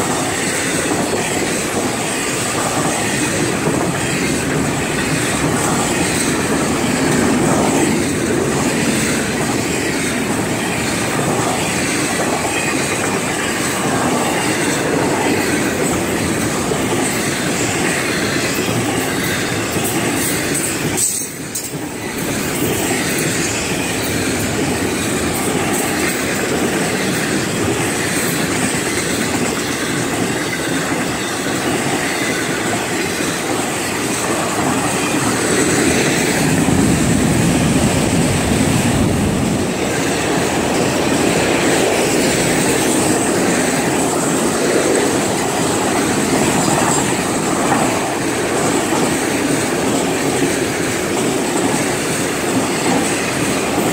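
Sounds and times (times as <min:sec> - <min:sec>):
freight train wheels rumbling on rail: 0:00.0 - 0:53.9.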